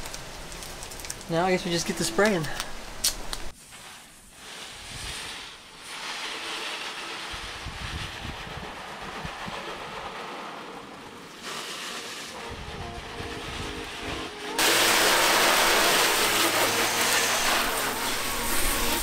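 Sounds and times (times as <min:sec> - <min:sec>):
hose water spraying: 0:01.6 - 0:19.0.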